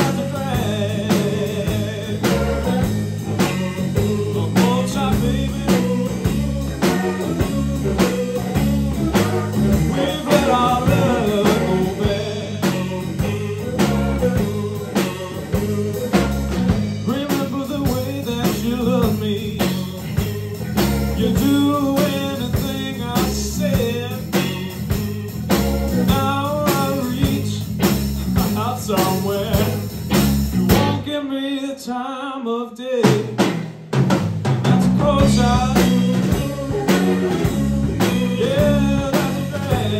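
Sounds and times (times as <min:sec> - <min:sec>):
person singing lead vocals: 0:00.0 - 0:30.0, 0:30.7 - 0:33.5, 0:34.6 - 0:39.9
drum kit: 0:00.0 - 0:31.1, 0:33.0 - 0:39.9
bass guitar: 0:00.0 - 0:31.3, 0:33.0 - 0:39.9
electric guitar: 0:00.0 - 0:31.4, 0:34.5 - 0:39.9.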